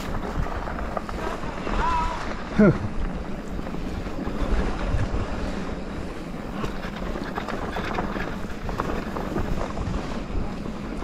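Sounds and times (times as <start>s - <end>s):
bike clicks and rattles: 0.0s - 11.0s
tyres rumbling on dirt: 0.0s - 11.0s
wind buffeting microphone: 0.0s - 11.0s.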